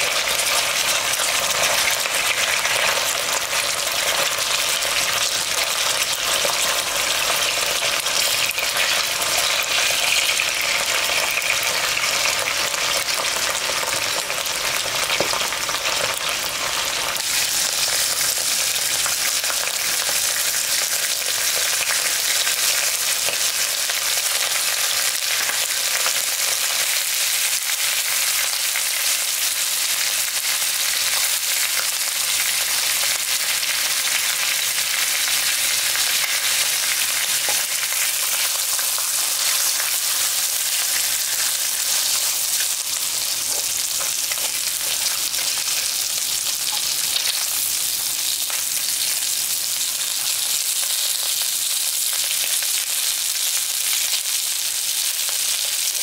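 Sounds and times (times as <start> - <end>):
food sizzling in butter: 0.0 - 56.0.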